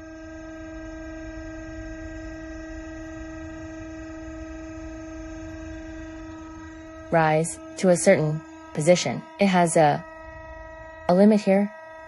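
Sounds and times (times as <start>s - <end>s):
hydraulic pump whine and rumble: 0.0s - 11.1s.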